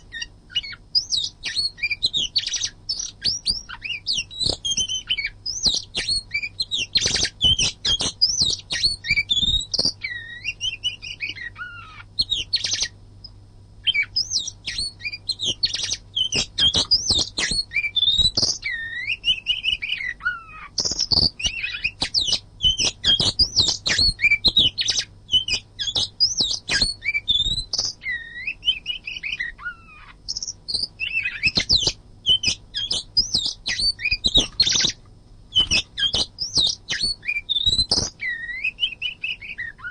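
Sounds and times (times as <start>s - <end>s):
faint low hum: 0.0s - 39.9s
songbird singing: 0.0s - 39.9s.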